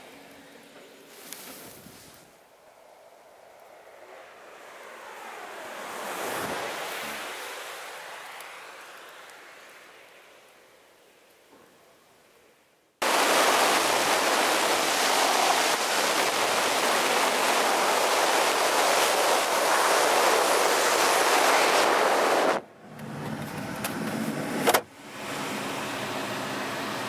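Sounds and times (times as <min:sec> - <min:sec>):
air rushing past glider: 0:01.1 - 0:10.8, 0:13.0 - 0:27.0.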